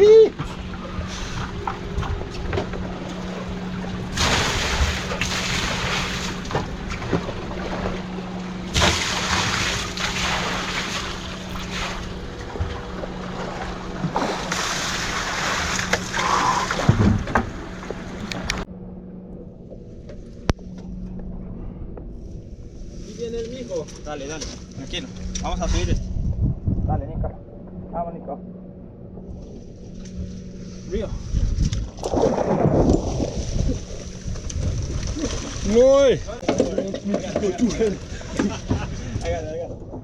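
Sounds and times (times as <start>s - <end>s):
boat engine humming: 0.0s - 40.0s
wind and water rushing on hull: 0.0s - 40.0s.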